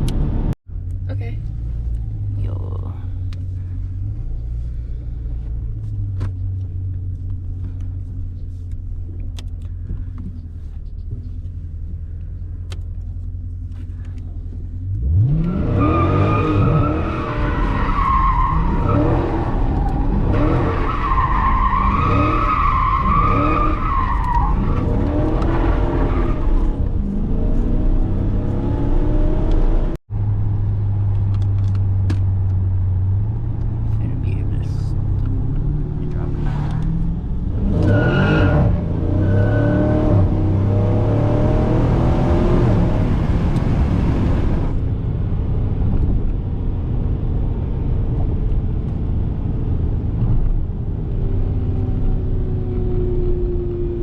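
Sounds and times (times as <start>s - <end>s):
car engine rumbling and revving: 0.0s - 54.0s.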